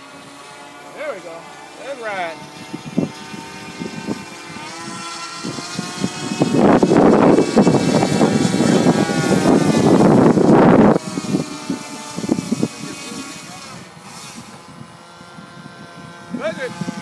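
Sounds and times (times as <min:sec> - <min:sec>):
loud rough rushing noise: 0:00.0 - 0:17.0
model plane engine drone: 0:00.0 - 0:17.0.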